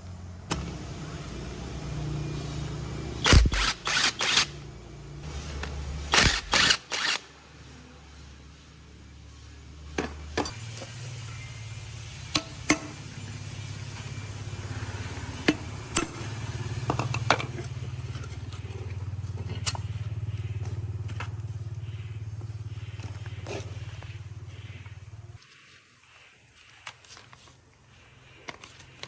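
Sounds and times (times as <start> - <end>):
engine humming: 0.0 - 25.5.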